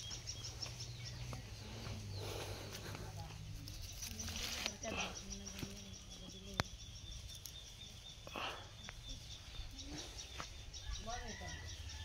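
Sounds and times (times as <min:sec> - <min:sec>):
steady low hum: 0:00.0 - 0:10.8
bird calls: 0:00.0 - 0:12.0.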